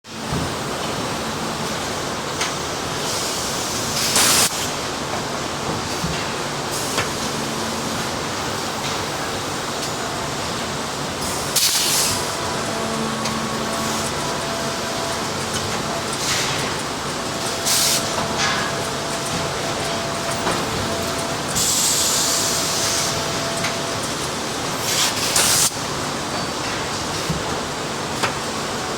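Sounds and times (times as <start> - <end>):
baling press running: 5.3 - 28.6.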